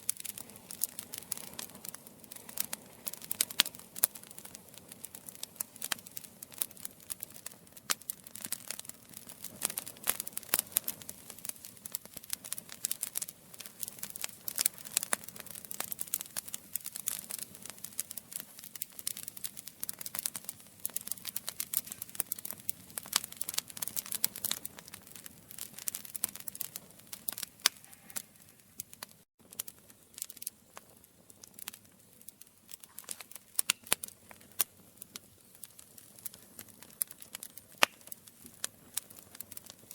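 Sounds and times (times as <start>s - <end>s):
campfire crackling and popping: 0.0s - 39.9s
faint hiss of burning fire: 0.0s - 39.9s.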